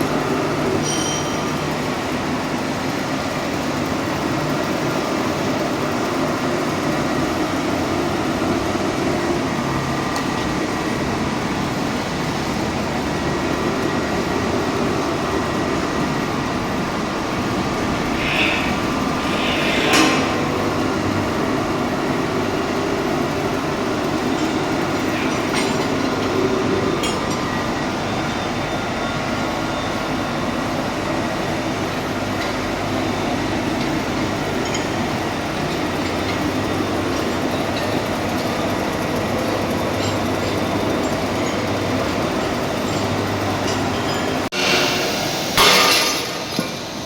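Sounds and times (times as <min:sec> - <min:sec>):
engine room machinery din: 0:00.0 - 0:47.0.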